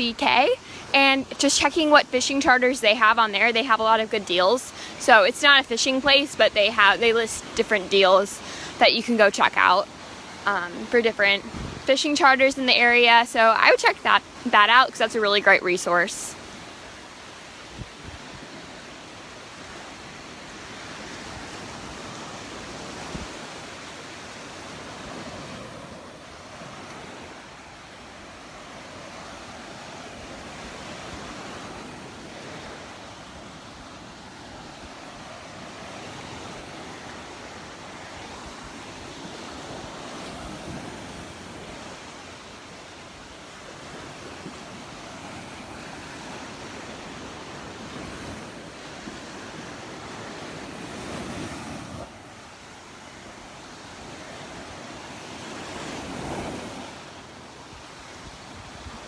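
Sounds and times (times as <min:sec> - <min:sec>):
surf washing onto beach: 0:00.0 - 0:59.0.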